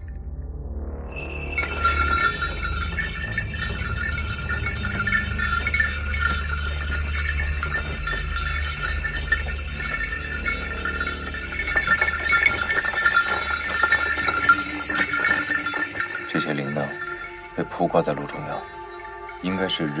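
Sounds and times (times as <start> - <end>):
small bells jingling: 1.1 - 20.0.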